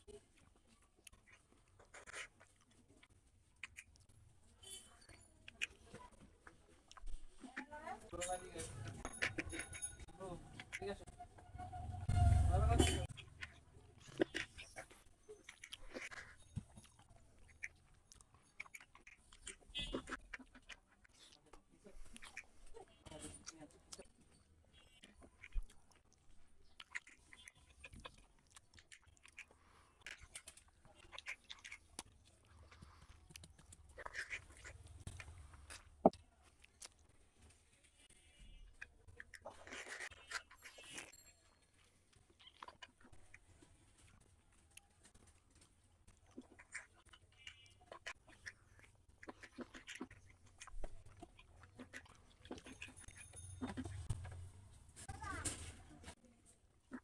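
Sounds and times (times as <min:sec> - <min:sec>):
chewing with mouth smacks: 0:00.0 - 0:10.8, 0:13.0 - 0:54.4
hand squishing rice and curry: 0:00.0 - 0:12.3, 0:13.0 - 0:54.3.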